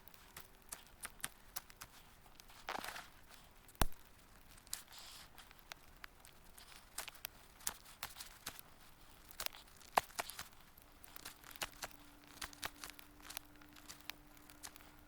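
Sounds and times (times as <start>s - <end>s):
faint steady hum: 0.0s - 15.0s
wood fire crackling: 0.0s - 15.0s.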